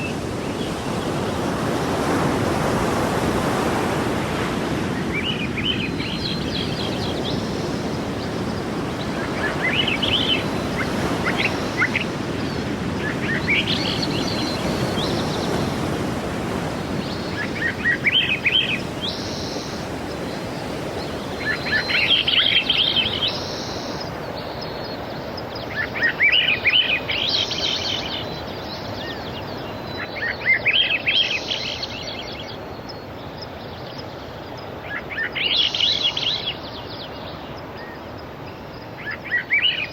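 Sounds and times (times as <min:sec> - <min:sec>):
sea surf: 0:00.0 - 0:33.6
songbird singing: 0:04.4 - 0:39.9.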